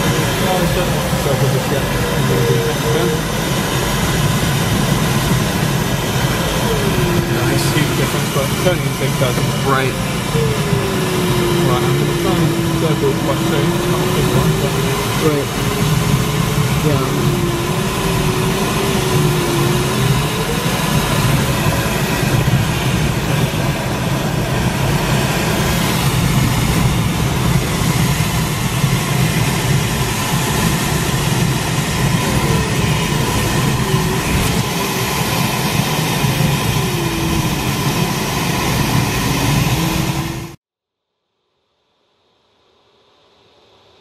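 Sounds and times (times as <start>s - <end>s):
airflow rushing over glider: 0.0s - 40.6s.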